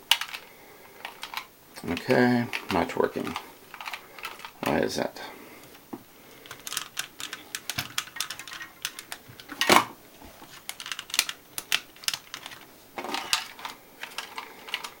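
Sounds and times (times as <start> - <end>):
small clicks of toys handled: 0.1 - 4.8, 6.4 - 15.0.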